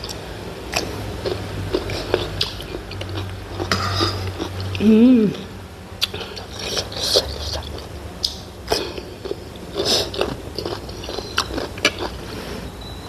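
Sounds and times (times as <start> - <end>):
person chewing food: 0.0 - 4.8, 6.0 - 12.7.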